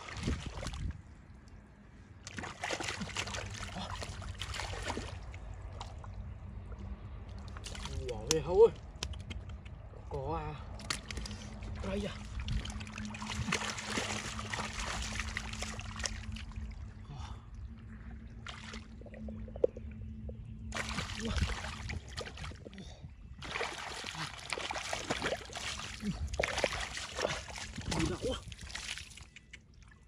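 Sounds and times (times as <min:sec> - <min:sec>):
water splashing and sloshing: 0:00.0 - 0:10.0, 0:10.6 - 0:30.0
low steady hum: 0:00.0 - 0:30.0.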